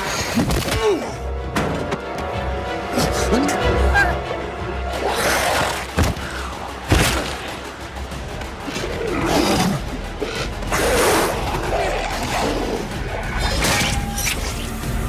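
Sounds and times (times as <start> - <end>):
action film score: 0.0 - 15.0.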